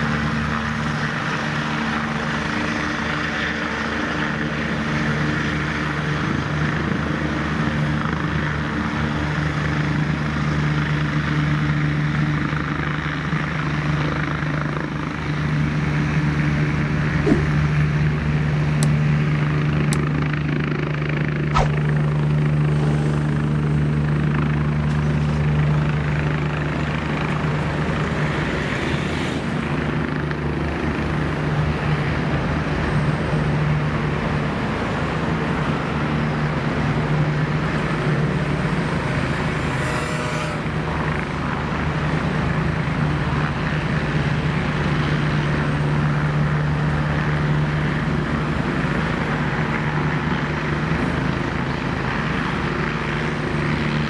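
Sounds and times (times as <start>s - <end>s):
helicopter hovering: 0.0s - 54.0s.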